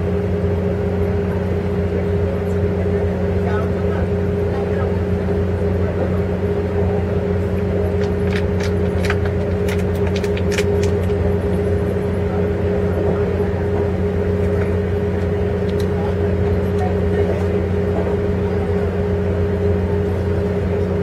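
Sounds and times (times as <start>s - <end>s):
train coach rumble and hum: 0.0s - 21.0s.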